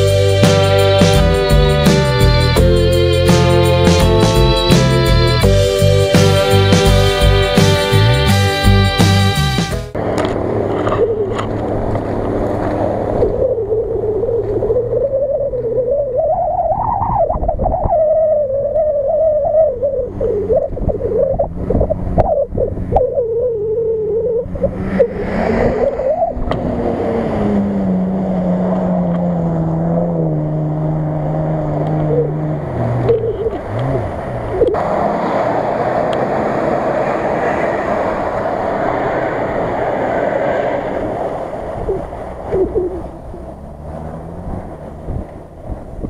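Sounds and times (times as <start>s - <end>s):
off-road vehicle engine revving: 0.0s - 17.0s, 18.2s - 46.0s.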